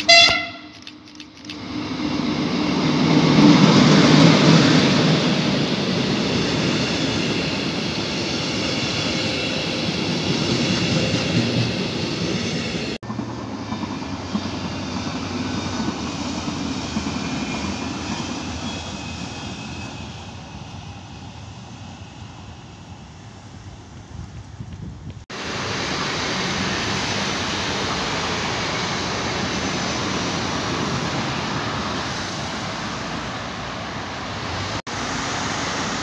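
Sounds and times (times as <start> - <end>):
distant train rolling: 0.0 - 36.0
train passing close by: 0.0 - 36.0.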